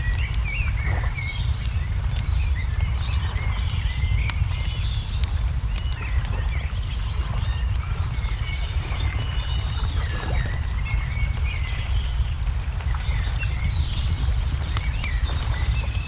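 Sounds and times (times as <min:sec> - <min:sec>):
low rumble: 0:00.0 - 0:16.0
small birds chirping: 0:00.0 - 0:16.0
wood fire crackling: 0:00.0 - 0:16.0.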